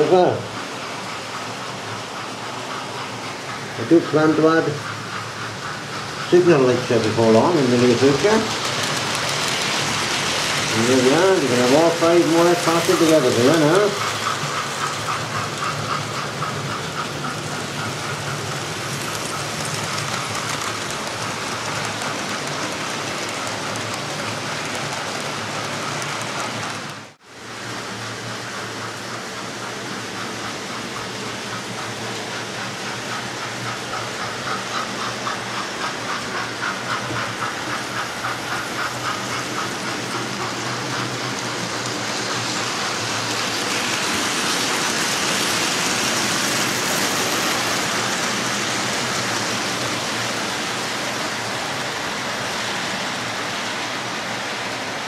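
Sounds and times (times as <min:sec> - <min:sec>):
wheels clicking over rail joints: 0:00.0 - 0:27.2, 0:27.8 - 0:55.0
model trains whirring and rattling: 0:00.0 - 0:55.0.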